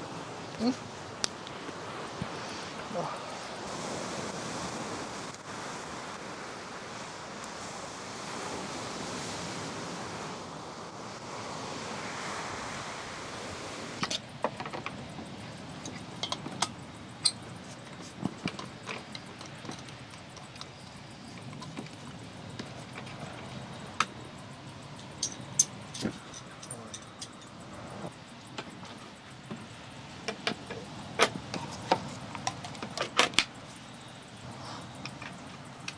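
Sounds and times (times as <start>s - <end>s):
wind: 0.0s - 35.9s.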